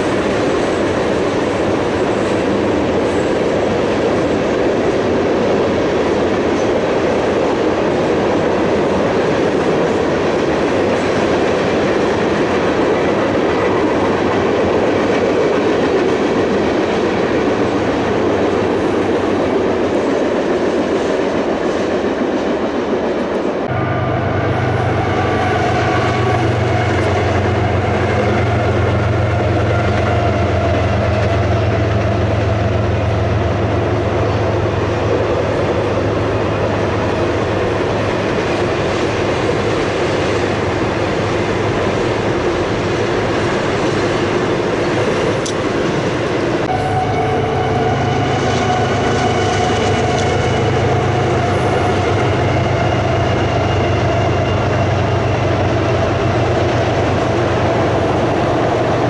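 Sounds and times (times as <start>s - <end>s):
diesel locomotive engines: 0.0s - 59.0s.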